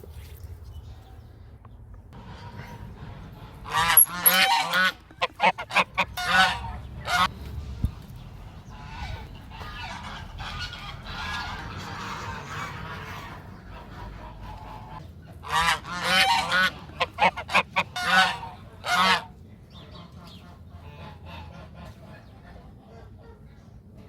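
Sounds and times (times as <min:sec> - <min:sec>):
geese honking: 0:02.2 - 0:24.0.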